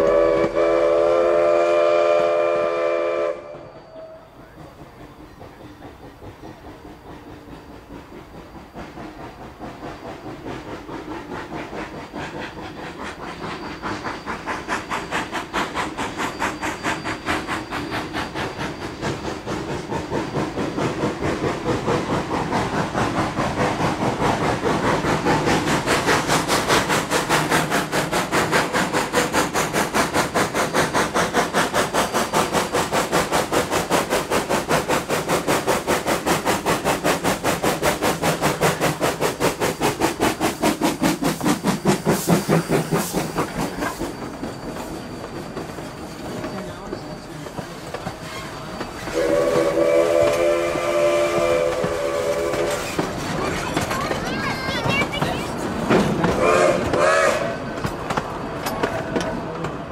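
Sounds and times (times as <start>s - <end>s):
steam hiss: 0.0s - 59.9s
steam locomotive exhaust chuffs: 0.0s - 59.9s.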